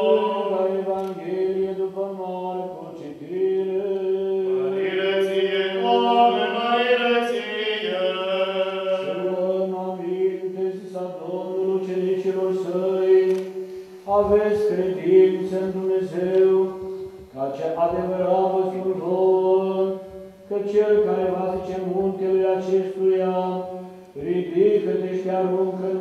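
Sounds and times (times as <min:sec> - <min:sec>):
voices chanting a cappella: 0:00.0 - 0:26.0.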